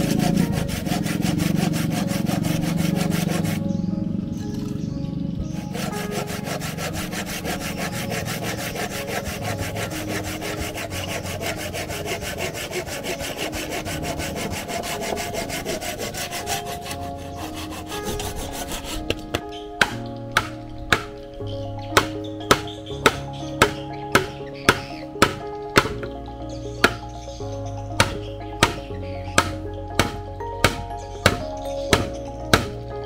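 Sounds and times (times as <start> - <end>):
hand saw cutting bamboo: 0.0 - 3.6, 5.7 - 21.1, 22.0 - 26.0, 28.0 - 28.8, 29.4 - 32.8.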